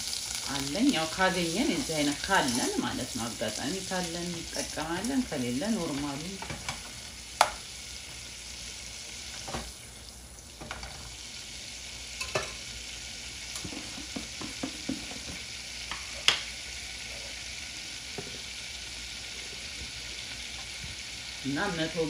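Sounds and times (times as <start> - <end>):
butter sizzling in a saucepan: 0.0 - 22.0.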